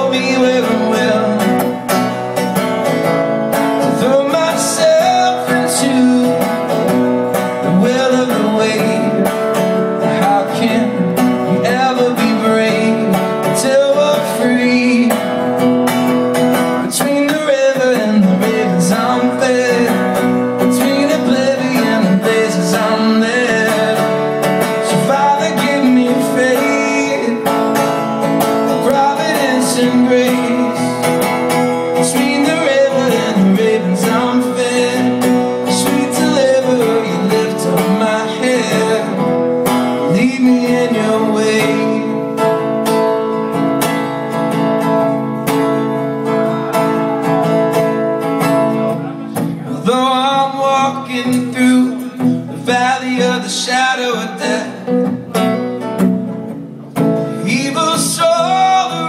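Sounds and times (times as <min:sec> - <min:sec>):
man singing: 0:00.0 - 0:55.8, 0:57.0 - 0:59.0
acoustic guitar strumming: 0:00.0 - 0:59.0.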